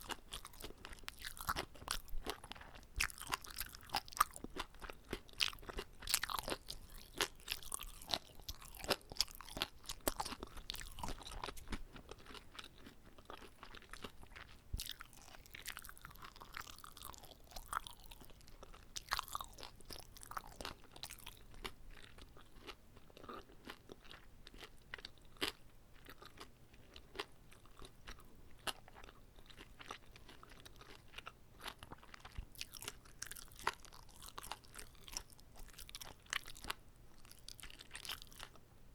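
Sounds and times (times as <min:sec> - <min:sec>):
chewing with wet clicks and crunches: 0:00.0 - 0:38.7.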